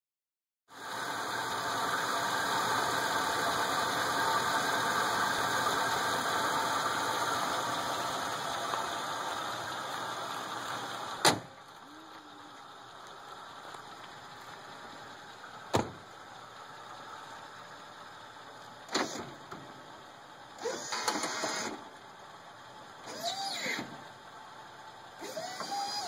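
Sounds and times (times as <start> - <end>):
pickup engine idling: 0.9 - 26.0.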